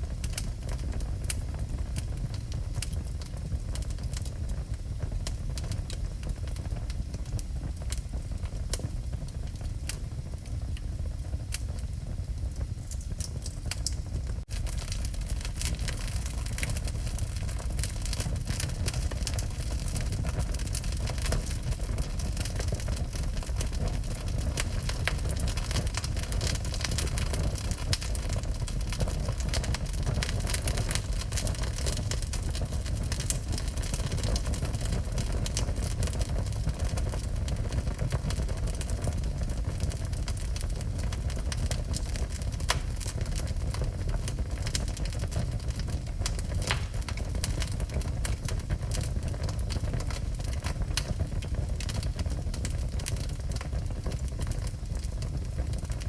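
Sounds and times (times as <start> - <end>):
fire low rumble: 0.0 - 56.0
wood fire crackling and popping: 0.0 - 56.0.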